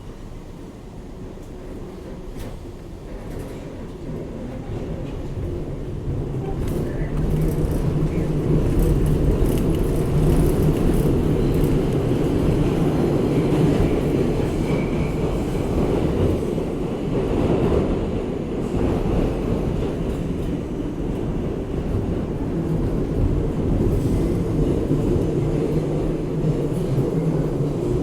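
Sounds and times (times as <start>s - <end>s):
subway train wheels rumbling: 0.0s - 28.0s.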